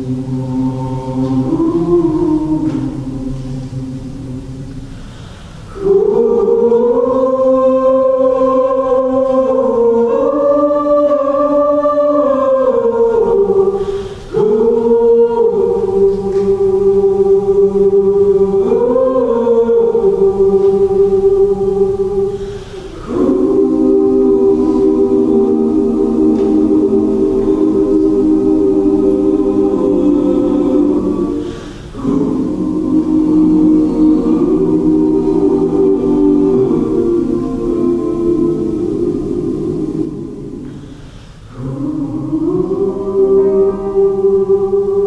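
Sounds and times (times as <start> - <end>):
mixed choir singing slow chords: 0.0 - 45.0.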